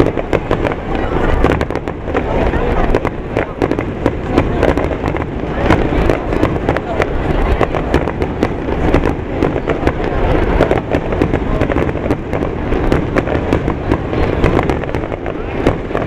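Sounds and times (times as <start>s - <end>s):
firework cracks and crackles: 0.0s - 16.0s
low rumble of booms: 0.0s - 16.0s.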